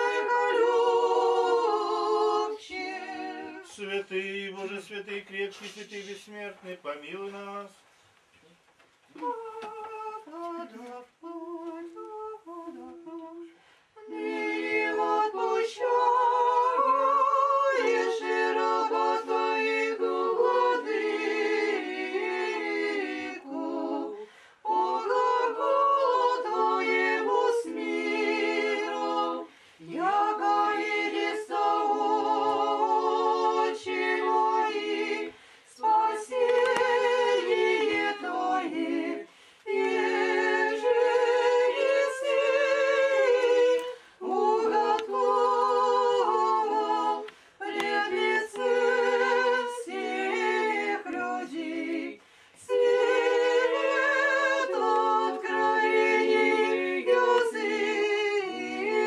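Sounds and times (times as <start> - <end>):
choir chanting a cappella: 0.0 - 6.4, 9.1 - 59.0.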